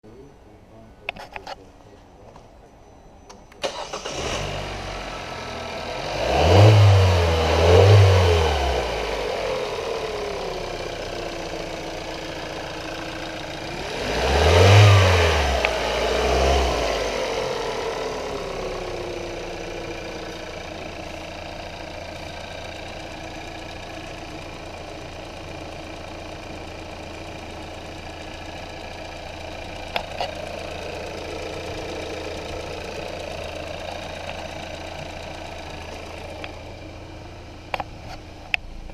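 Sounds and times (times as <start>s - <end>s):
car engine starting and revving: 3.6s - 38.9s.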